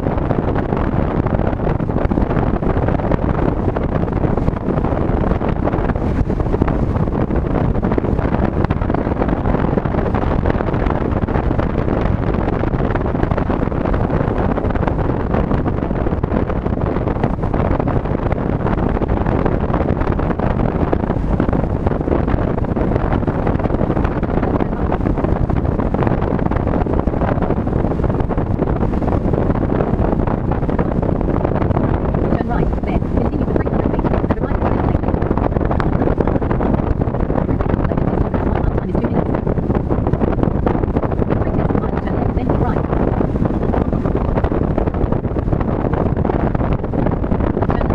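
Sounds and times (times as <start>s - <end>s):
car road noise: 0.0s - 47.9s
wind buffeting microphone: 0.0s - 47.9s.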